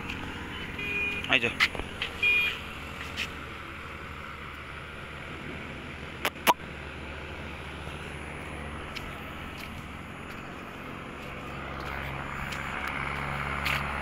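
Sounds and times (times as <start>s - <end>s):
distant traffic: 0.0s - 14.0s.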